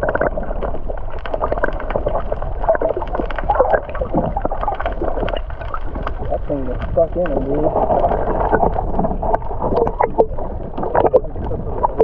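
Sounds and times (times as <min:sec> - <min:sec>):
underwater gurgling and sloshing: 0:00.0 - 0:12.0.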